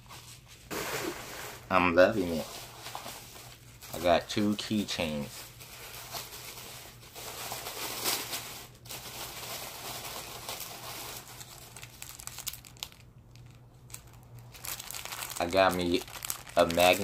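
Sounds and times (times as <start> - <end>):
packaging crinkling and tearing: 0.7 - 17.0.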